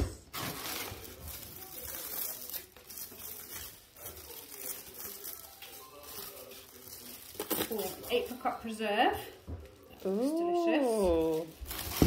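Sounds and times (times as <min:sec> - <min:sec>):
packing paper rustling and crinkling: 0:00.0 - 0:12.0.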